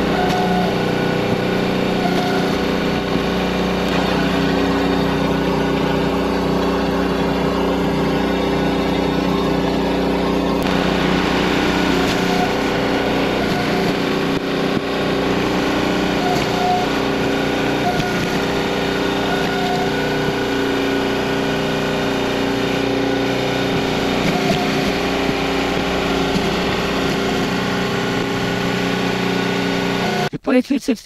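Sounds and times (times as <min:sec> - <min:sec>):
small gasoline engine running: 0:00.0 - 0:30.3.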